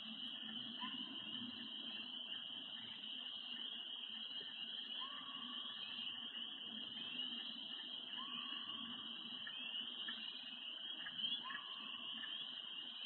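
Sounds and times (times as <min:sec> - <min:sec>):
frogs peeping: 0:00.0 - 0:13.0.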